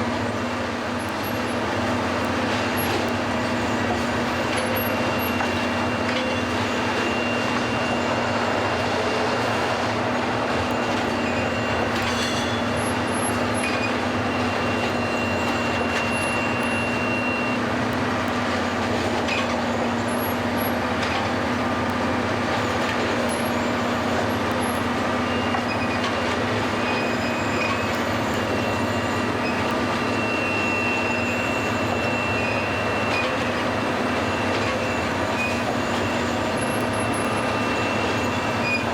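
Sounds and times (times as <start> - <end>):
track machinery droning: 0.0 - 38.9.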